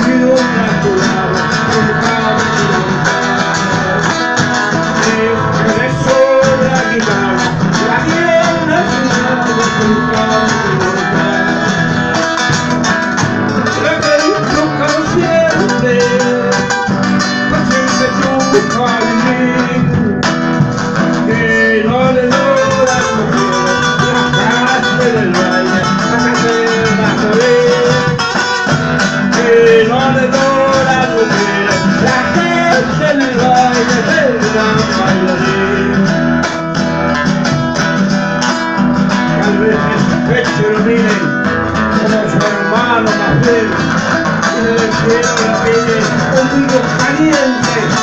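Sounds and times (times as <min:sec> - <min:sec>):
person singing: 0:00.0 - 0:12.6, 0:13.5 - 0:37.6, 0:39.0 - 0:48.0
nylon-string guitars playing: 0:00.0 - 0:48.0.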